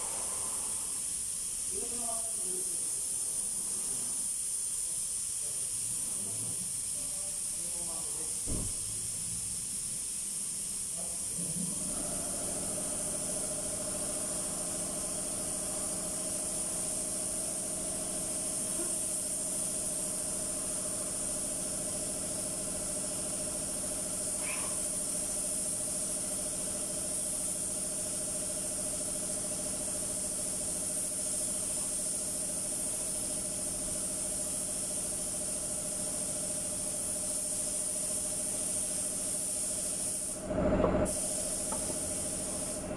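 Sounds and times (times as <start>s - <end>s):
paint spray gun hissing: 0.0s - 40.4s, 41.1s - 42.9s.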